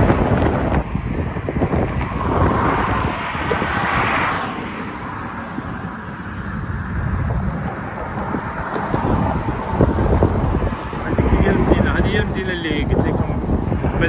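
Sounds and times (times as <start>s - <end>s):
road traffic noise: 0.0s - 14.0s
wind on microphone: 0.0s - 14.0s.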